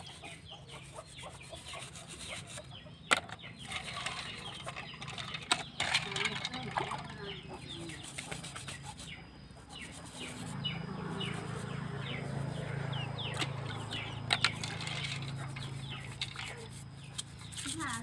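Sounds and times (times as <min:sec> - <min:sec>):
chickens clucking: 0:00.0 - 0:17.2
brushes scrubbing snails in water: 0:00.0 - 0:18.0.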